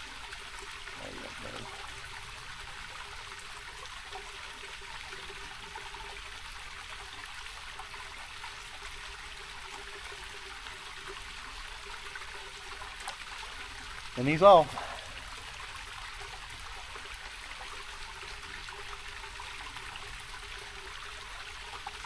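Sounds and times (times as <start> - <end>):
creek running over rocks: 0.0 - 22.0.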